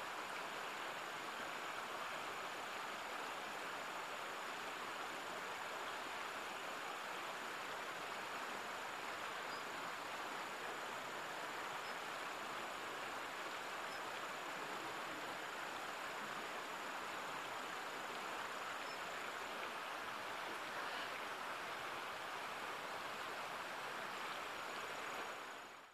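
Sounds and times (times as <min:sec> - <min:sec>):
stream rushing: 0:00.0 - 0:25.9.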